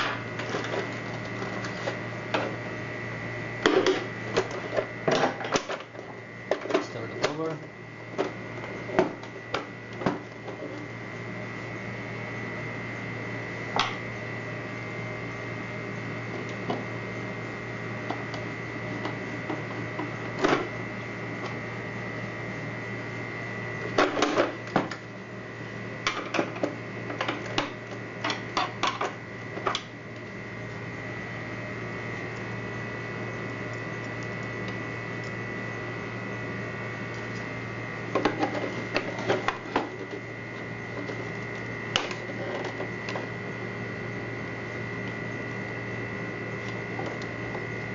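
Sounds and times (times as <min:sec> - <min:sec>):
steady hum with high tone: 0:00.0 - 0:47.9.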